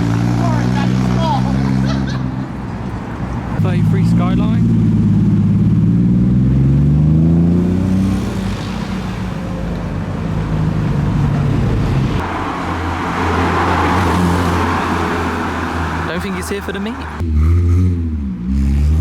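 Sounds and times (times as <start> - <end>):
vehicle passing: 0.0 - 17.5
car engine accelerating: 0.0 - 19.0.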